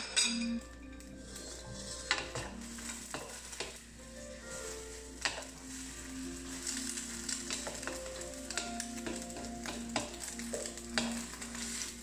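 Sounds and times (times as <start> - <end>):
eggs sizzling in oil: 0.0 - 12.0
spatula scraping and tapping pan: 0.0 - 12.0.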